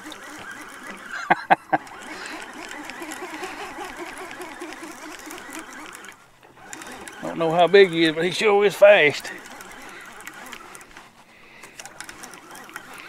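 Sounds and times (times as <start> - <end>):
fishing reel whirring: 0.0 - 13.0
sharp reel clicks: 0.0 - 13.0
wind: 0.0 - 13.0.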